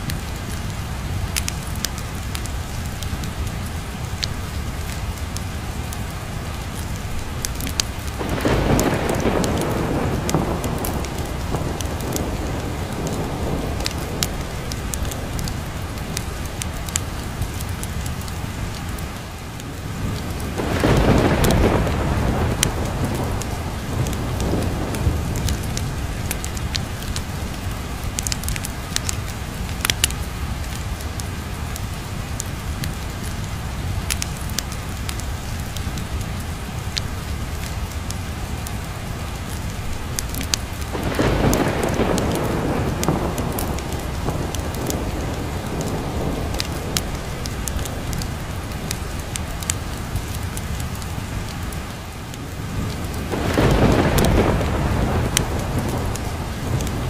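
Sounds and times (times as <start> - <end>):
sharp crackles: 0.0 - 57.0
steady rain: 0.0 - 57.0
thunder rumbling: 0.1 - 37.0, 39.4 - 57.0.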